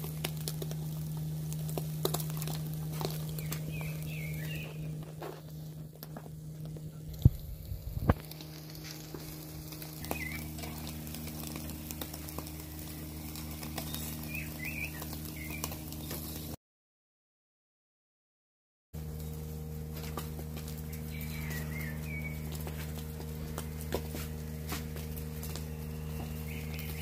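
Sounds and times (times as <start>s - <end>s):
coals crackling: 0.0s - 16.6s, 19.0s - 27.0s
low hum: 0.0s - 16.6s, 19.0s - 27.0s
meat sizzling over coals: 0.0s - 16.6s, 19.0s - 27.0s.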